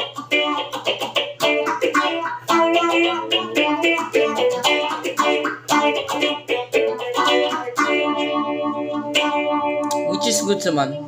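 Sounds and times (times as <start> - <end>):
electric guitar with phaser: 0.0 - 11.0.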